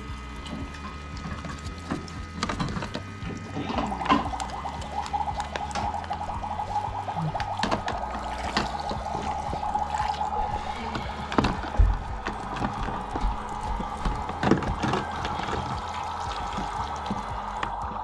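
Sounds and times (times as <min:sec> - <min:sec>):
water running: 0:00.0 - 0:18.0.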